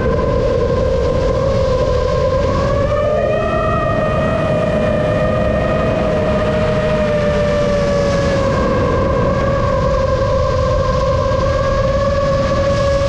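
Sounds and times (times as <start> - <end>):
drone propellers whining: 0.0 - 13.0
low rushing noise: 0.0 - 13.0.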